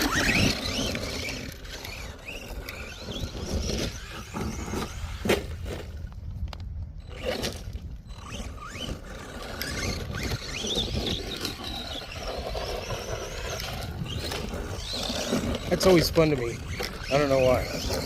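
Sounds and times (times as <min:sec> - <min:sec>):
electric motor whining: 0:00.0 - 0:06.2, 0:07.0 - 0:18.0
tyres scraping loose ground: 0:00.0 - 0:18.0.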